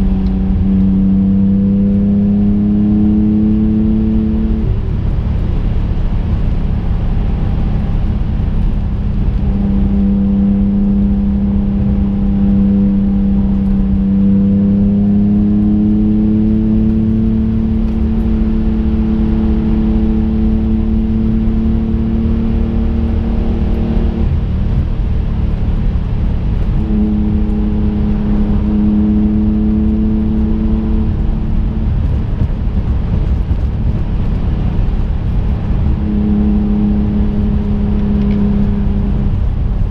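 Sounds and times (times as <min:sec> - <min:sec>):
car engine accelerating: 0:00.0 - 0:39.9
road rumble: 0:00.0 - 0:39.9.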